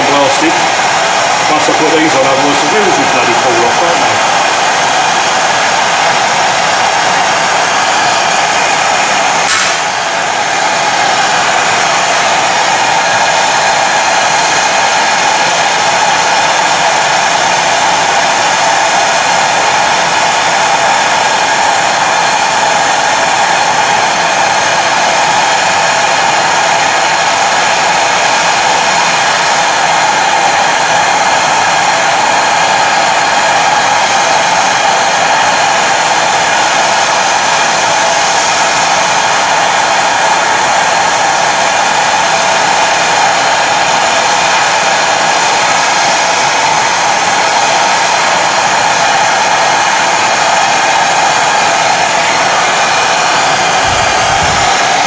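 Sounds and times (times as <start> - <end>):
gas torch roaring hiss: 0.0 - 55.0.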